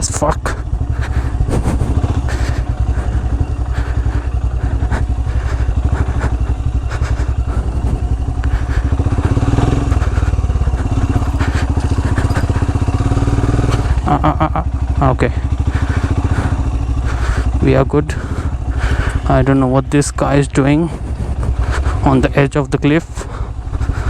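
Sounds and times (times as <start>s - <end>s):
motorcycle engine at low revs: 0.0s - 24.0s.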